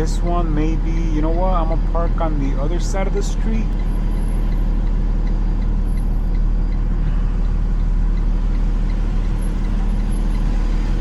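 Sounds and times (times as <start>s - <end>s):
truck engine rumbling: 0.0s - 11.0s
faint light ticking: 1.0s - 11.0s.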